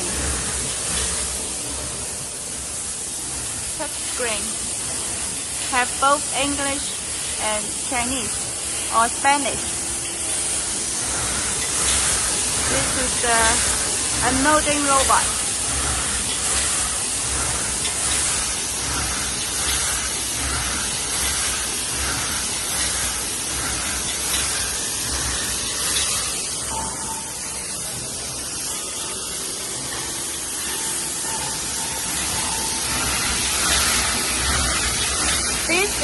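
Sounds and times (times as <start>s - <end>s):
printing machine running: 0.0s - 36.0s.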